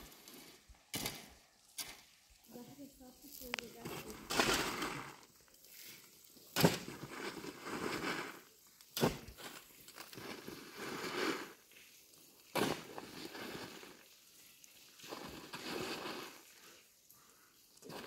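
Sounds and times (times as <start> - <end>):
noise: 0.0 - 18.0.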